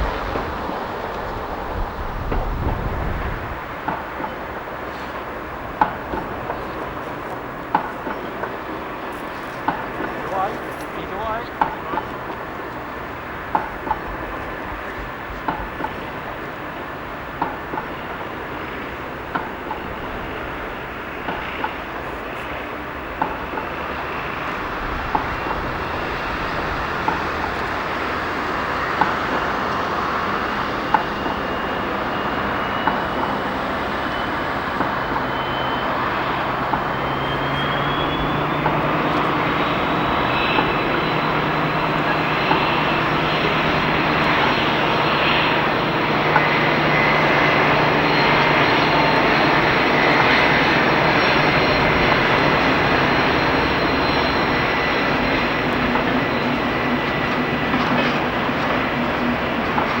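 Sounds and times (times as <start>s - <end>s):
diesel train engine drone: 0.0s - 60.0s
wheels clicking over rail joints: 0.0s - 60.0s.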